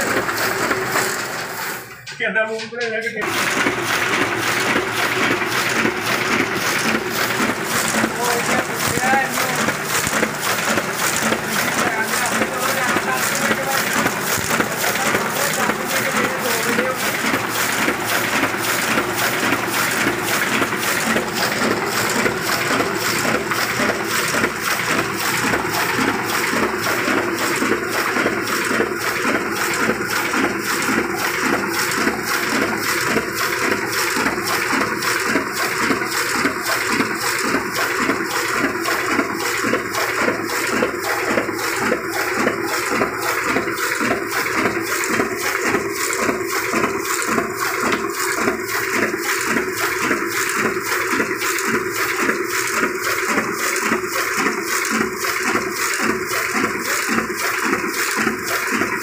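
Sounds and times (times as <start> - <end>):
printing press running: 0.0 - 59.0.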